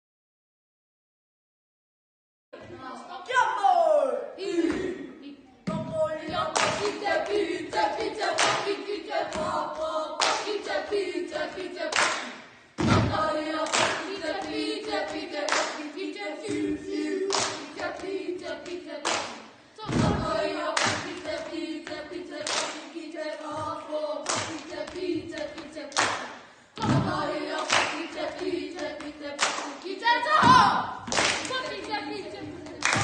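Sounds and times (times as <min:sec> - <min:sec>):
children singing in unison: 0:05.7 - 0:33.0
rhythmic claps or stamps: 0:05.7 - 0:33.0.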